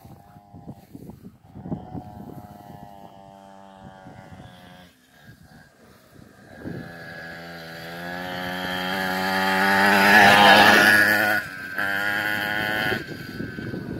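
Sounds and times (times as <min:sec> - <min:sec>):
mini quad bike engine running: 0:00.0 - 0:13.9.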